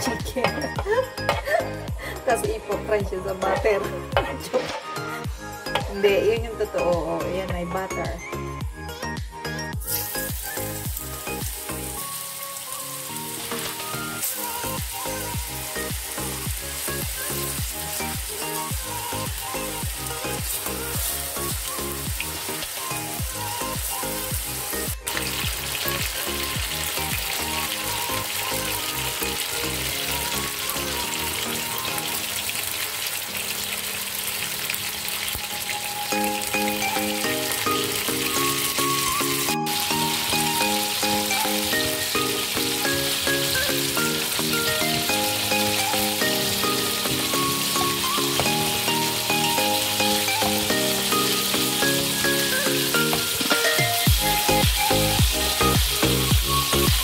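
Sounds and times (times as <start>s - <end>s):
background music with beat: 0.0s - 32.4s, 35.4s - 57.0s
chicken sizzling in a pan: 9.8s - 57.0s.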